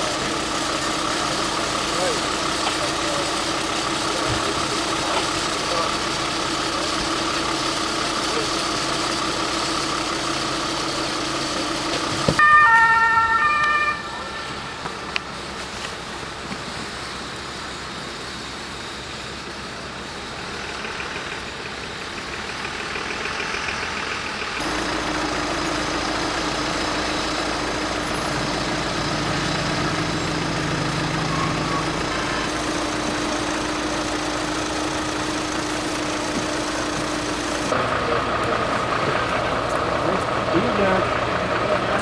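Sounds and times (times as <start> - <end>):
emergency vehicle engines idling: 0.0 - 42.0.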